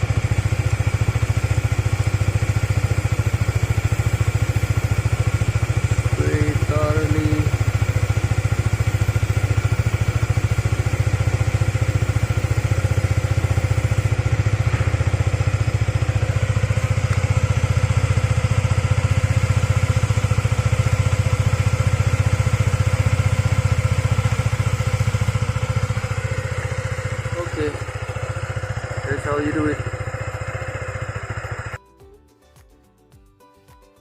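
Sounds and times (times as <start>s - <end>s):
motorcycle engine idling: 0.0s - 31.8s.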